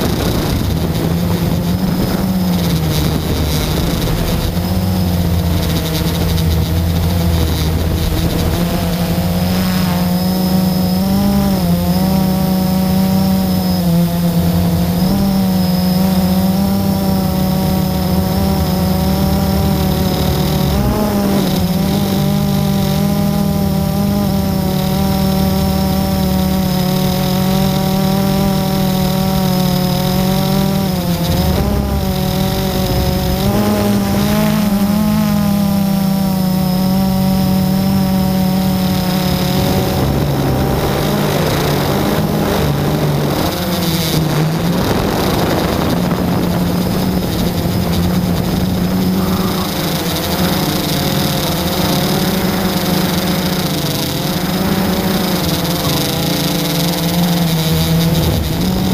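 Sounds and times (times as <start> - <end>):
drone motors whining: 0.0 - 58.9.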